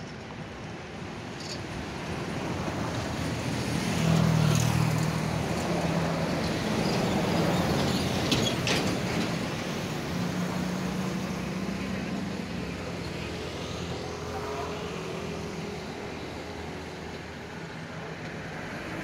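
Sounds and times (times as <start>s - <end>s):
aircraft engines rumbling: 0.0s - 19.0s.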